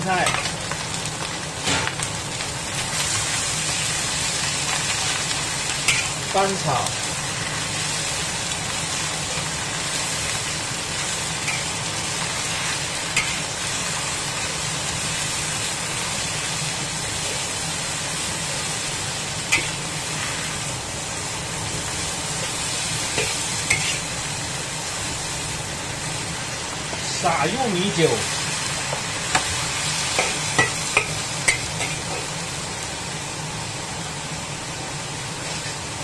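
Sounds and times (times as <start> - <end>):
vegetables sizzling in hot oil: 0.0 - 36.0.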